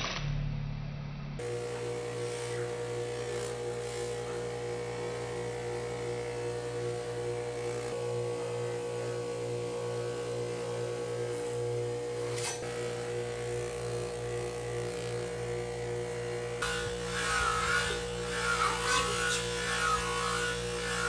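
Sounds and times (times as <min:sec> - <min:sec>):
bench grinder motor humming: 0:01.4 - 0:21.0
grinding disc rasping on metal: 0:01.4 - 0:21.0.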